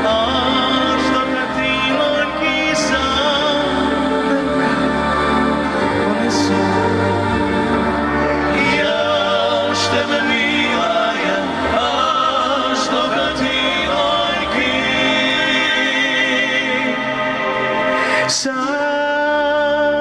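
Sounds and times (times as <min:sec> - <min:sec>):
voices singing with vibrato: 0:00.0 - 0:20.0.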